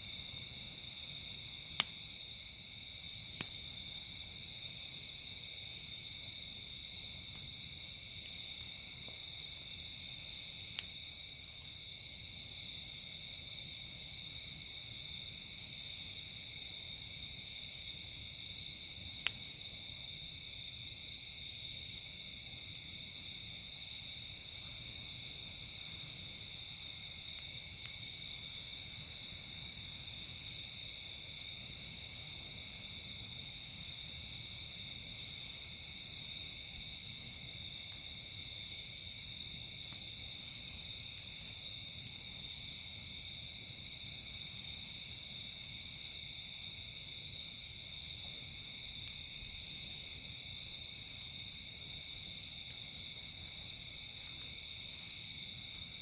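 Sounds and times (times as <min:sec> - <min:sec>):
campfire popping: 0:00.0 - 0:14.0, 0:15.4 - 0:56.0
crickets and insects chirping: 0:00.0 - 0:56.0.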